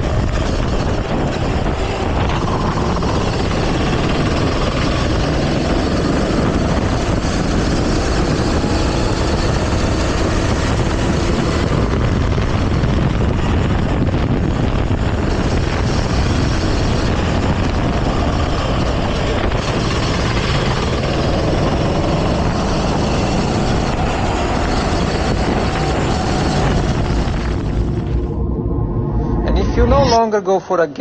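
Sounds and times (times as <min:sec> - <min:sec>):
go-kart engine running: 0:00.0 - 0:28.4
rush of noise: 0:00.0 - 0:31.0.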